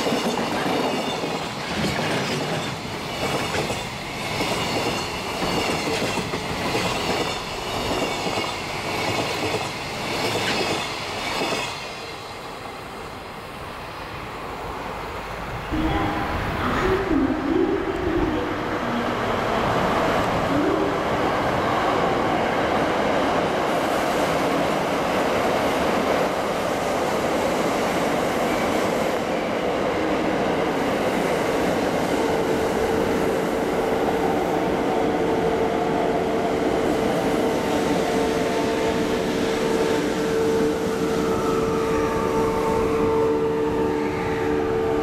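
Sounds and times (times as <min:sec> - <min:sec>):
freight train rumbling on rails: 0:00.0 - 0:45.0.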